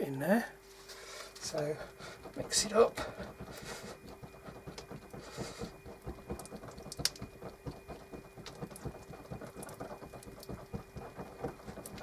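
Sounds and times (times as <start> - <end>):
glue mixing taps and scrapes: 1.4 - 12.0.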